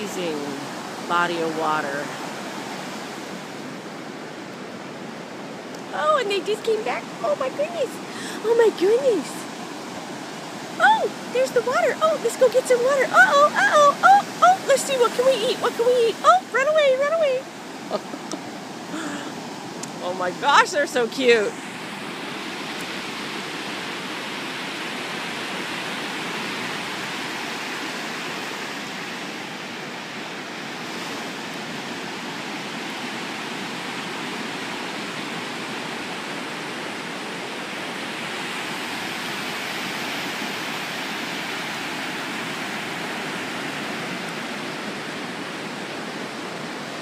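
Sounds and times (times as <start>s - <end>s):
surf washing onto beach: 0.0s - 47.0s.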